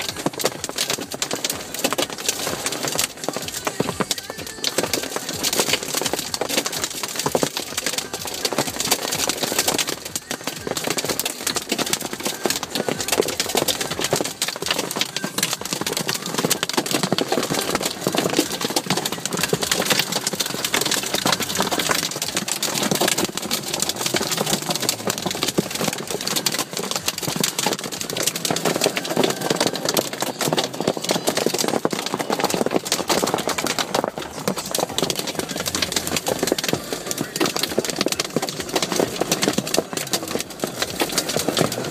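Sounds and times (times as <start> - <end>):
hailstones clattering: 0.0 - 41.9.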